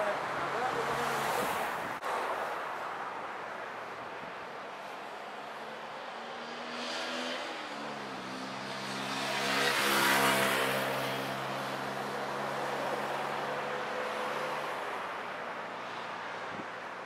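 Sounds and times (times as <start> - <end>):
cars passing on a bridge: 0.0 - 17.0.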